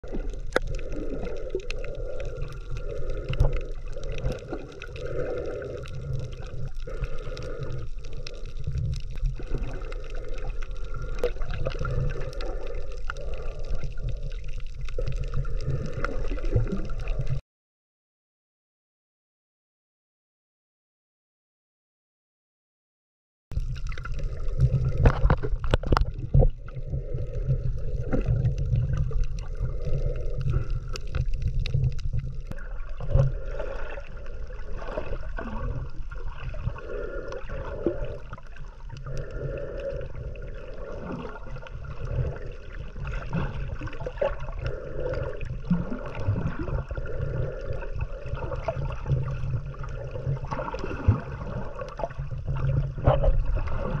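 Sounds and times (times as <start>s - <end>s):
underwater low rumble: 0.0s - 17.4s, 23.5s - 54.0s
water sloshing and gurgling: 0.0s - 17.4s, 23.5s - 54.0s.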